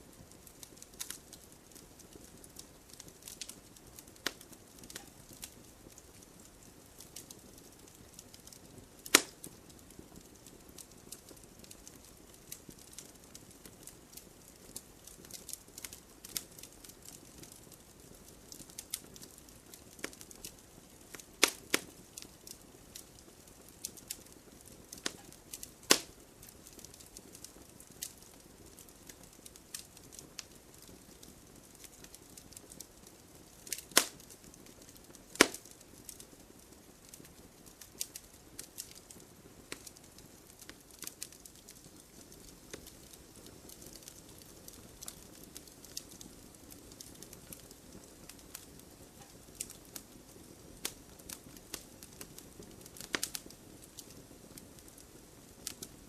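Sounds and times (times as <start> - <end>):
faint steady hiss: 0.0 - 56.0
wood fire crackling and popping: 0.0 - 56.0.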